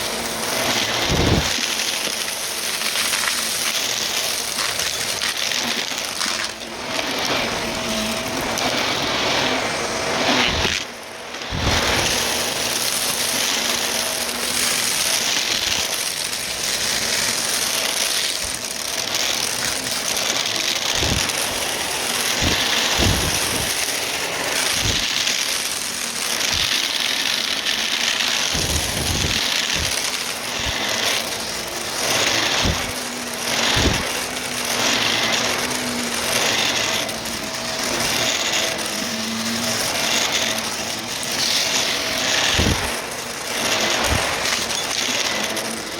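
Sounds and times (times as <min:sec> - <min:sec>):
vacuum cleaner running: 0:00.0 - 0:45.9
crunches and clicks of debris: 0:00.6 - 0:06.7, 0:11.5 - 0:45.9.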